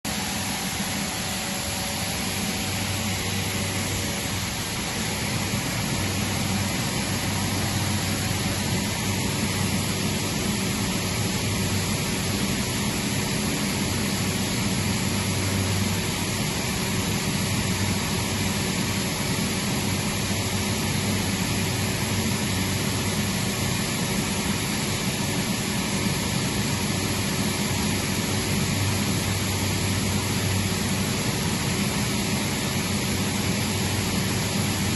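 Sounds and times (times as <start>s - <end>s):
air compressor running: 0.1s - 34.9s.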